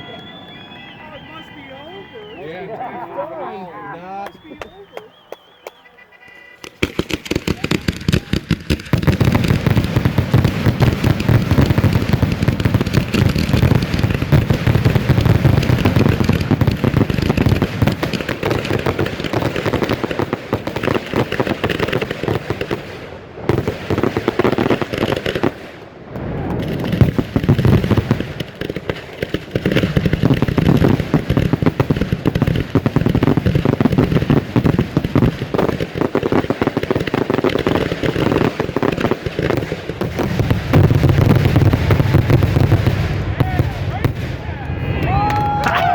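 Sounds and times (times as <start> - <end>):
firework bangs: 0.0 - 2.5, 4.3 - 45.9.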